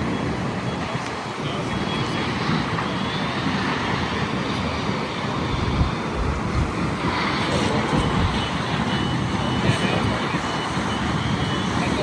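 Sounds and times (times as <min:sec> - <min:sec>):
vehicle engine and traffic noise: 0:00.0 - 0:12.0.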